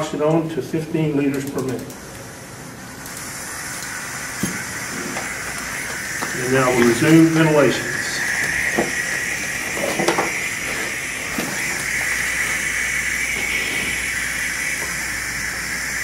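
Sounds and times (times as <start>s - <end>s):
oxygen hissing from regulator: 1.9s - 16.0s.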